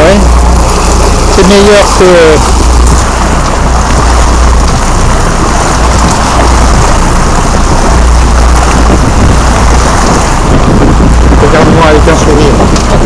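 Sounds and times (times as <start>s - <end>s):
boat engine drone: 0.0s - 13.0s
wind and water rush: 0.0s - 13.0s.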